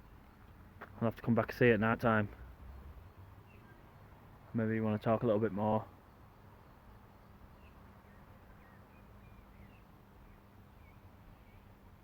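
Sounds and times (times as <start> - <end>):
distant bird chirps: 1.6 - 12.0.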